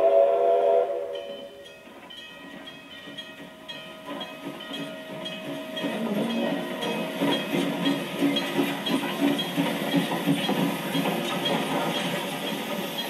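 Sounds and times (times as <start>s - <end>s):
steady steam hiss: 0.0s - 13.0s
steam locomotive exhaust chuffing: 0.0s - 13.0s.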